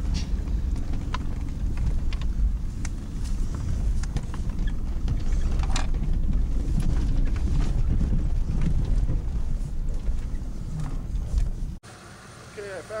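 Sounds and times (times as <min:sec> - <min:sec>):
engine and drivetrain rumble: 0:00.0 - 0:13.0.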